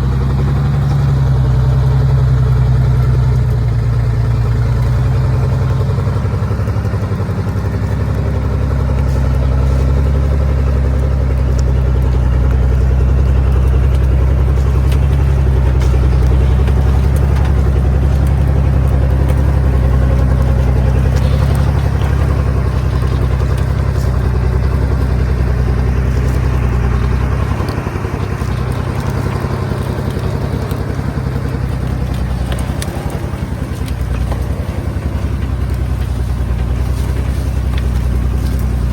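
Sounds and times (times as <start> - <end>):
truck engine under load: 0.0 - 38.9.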